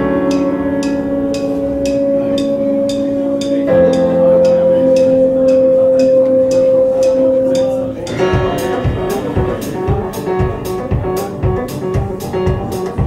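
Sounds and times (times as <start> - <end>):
music with ticking beat and bass: 0.0 - 13.0.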